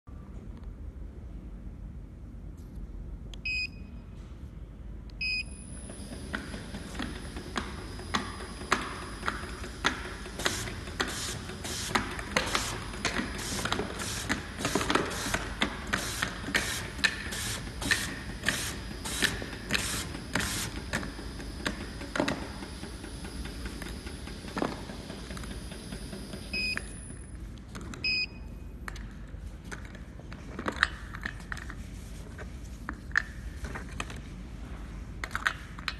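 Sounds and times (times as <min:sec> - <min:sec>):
low machine hum: 0:00.1 - 0:30.5.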